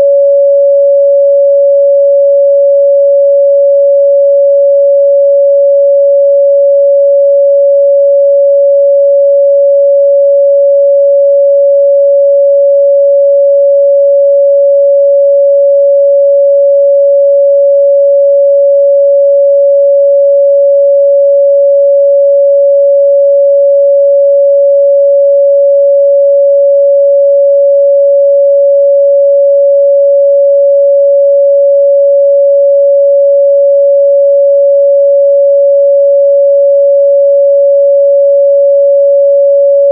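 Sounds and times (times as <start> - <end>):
pure sine test tone: 0.0 - 39.9.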